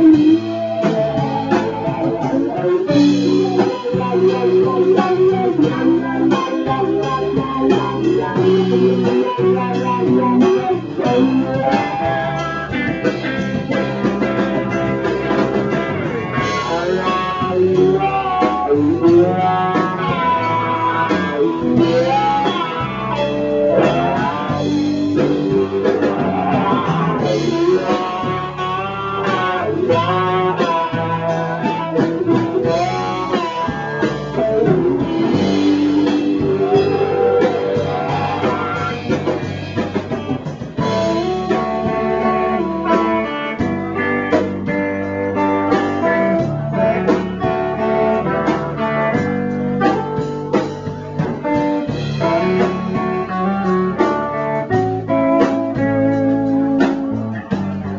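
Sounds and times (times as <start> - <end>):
guitar: 0.0 - 57.9
live blues band: 0.0 - 57.9.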